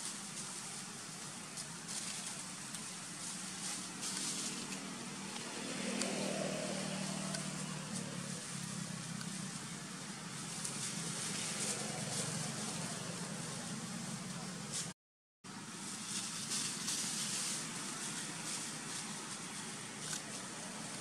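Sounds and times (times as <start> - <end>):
faint high rustle: 0.0 - 5.7, 6.6 - 15.0, 15.7 - 21.0.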